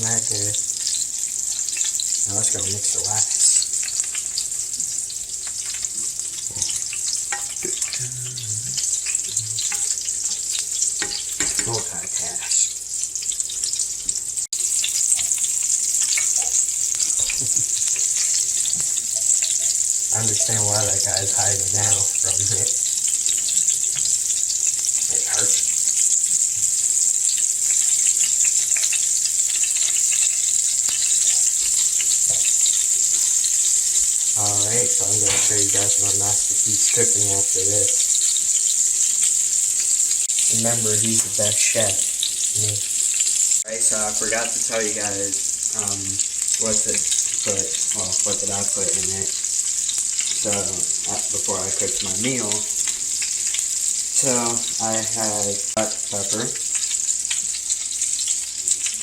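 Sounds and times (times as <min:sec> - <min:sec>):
food frying in hot oil: 0:00.0 - 0:59.0
oil popping and crackling: 0:00.0 - 0:59.0.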